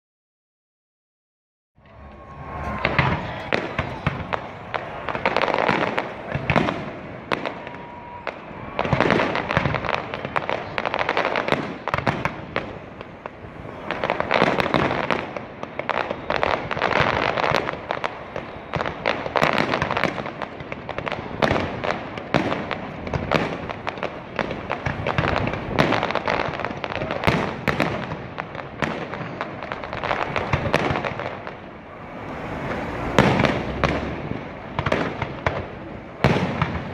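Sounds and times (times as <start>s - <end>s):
fireworks bangs and crackles: 1.8s - 36.9s.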